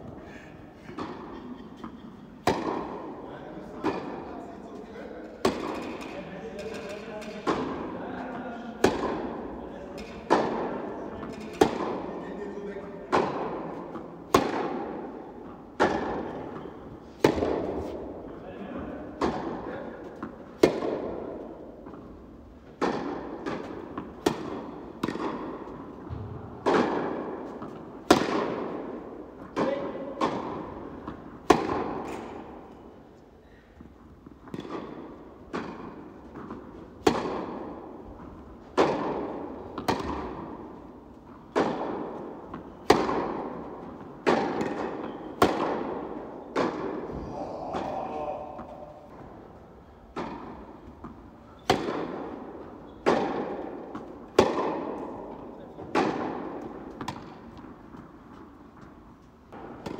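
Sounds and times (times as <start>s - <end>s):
tennis ball bouncing on court: 0.9s - 3.2s, 3.8s - 4.2s, 5.3s - 7.9s, 8.8s - 12.1s, 13.1s - 32.9s, 33.8s - 47.2s, 50.1s - 59.9s
tennis ball struck by rackets: 0.9s - 3.2s, 3.8s - 4.2s, 5.3s - 7.9s, 8.8s - 12.1s, 13.1s - 32.9s, 33.8s - 59.9s.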